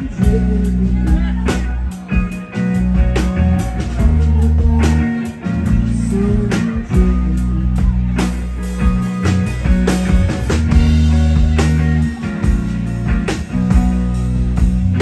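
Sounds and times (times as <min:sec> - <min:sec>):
electric bass guitar: 0:00.0 - 0:15.0
electric guitar: 0:00.0 - 0:15.0.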